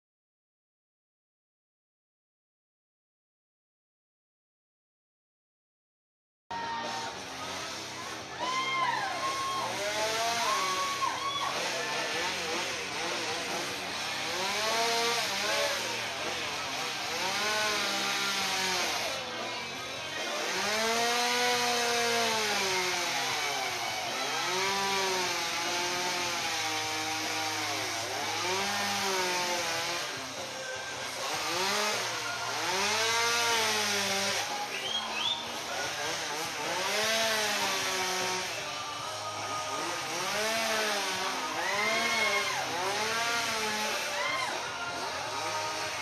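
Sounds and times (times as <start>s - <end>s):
chainsaw carving ice: 6.6s - 46.0s.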